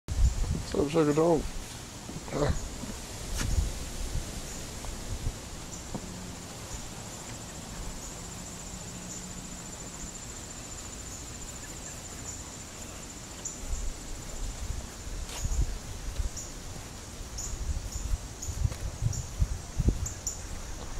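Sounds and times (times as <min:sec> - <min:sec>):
insects trilling: 0:00.1 - 0:20.9.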